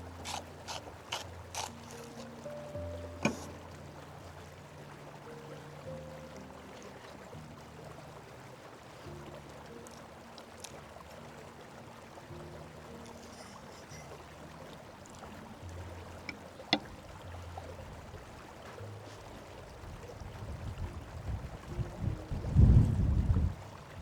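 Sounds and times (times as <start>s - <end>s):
flowing river rushing: 0.0s - 20.5s
soft background music: 0.0s - 24.0s.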